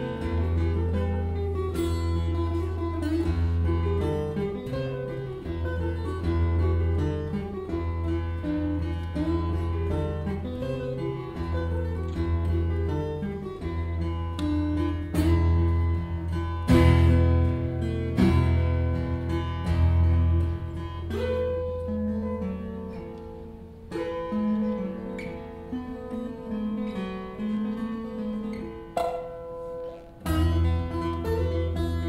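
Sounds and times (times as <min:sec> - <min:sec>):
acoustic guitar fingerstyle: 0:00.0 - 0:32.0.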